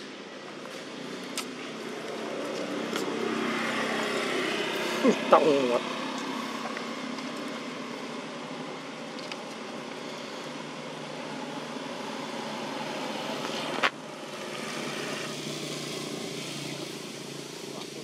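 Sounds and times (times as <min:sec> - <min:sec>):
distant traffic hum: 0:00.0 - 0:18.0.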